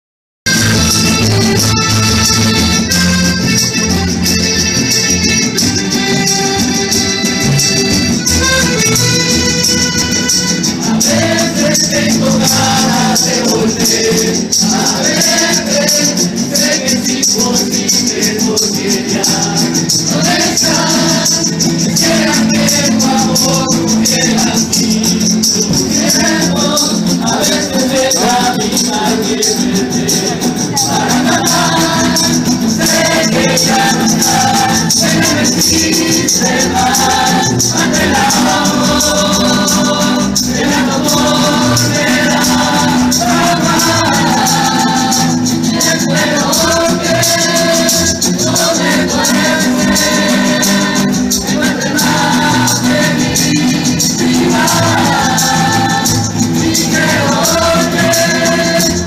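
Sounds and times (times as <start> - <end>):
group singing: 0.5 - 59.0
instrumental backing: 0.5 - 59.0
shaken percussion jingle: 0.5 - 59.0.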